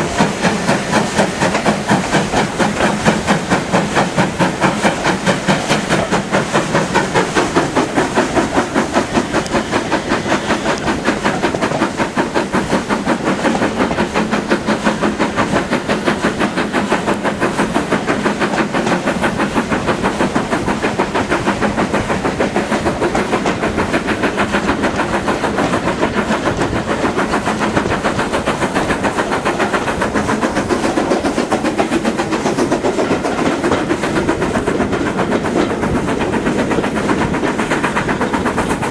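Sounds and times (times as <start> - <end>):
train rhythmic beat: 0.0 - 38.9.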